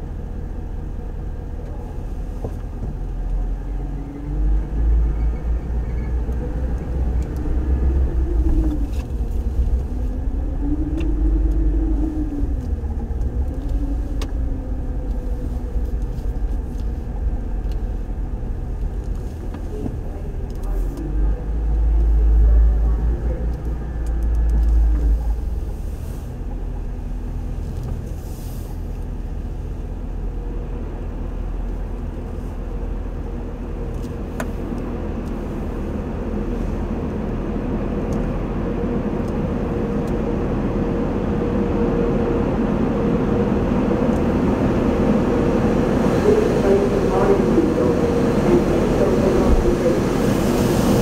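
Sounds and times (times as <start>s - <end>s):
car wash machinery hum: 0.0s - 51.0s.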